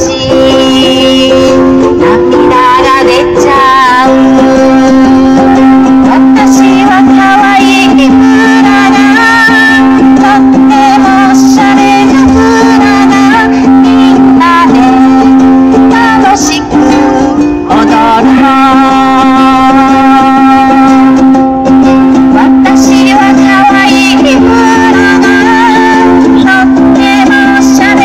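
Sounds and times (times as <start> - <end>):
ukulele: 0.0 - 28.0
woman singing: 0.0 - 28.0.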